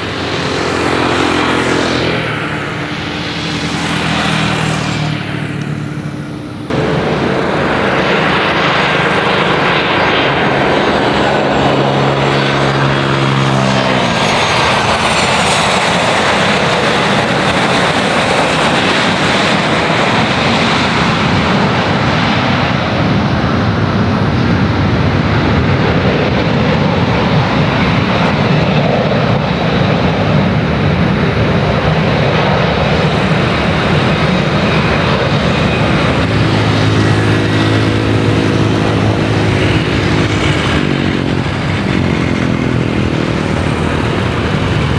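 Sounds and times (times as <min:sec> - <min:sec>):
jet airliner roar: 0:00.0 - 0:44.9.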